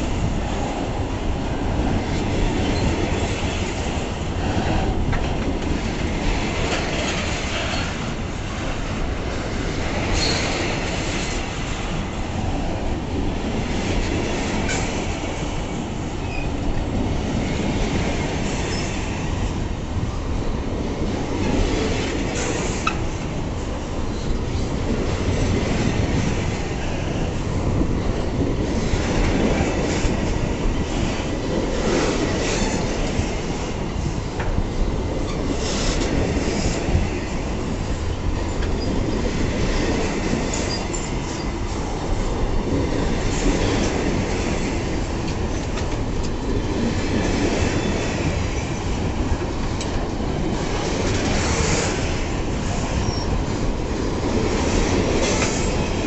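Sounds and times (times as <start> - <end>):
train wagons rolling on rails: 0.0 - 56.0.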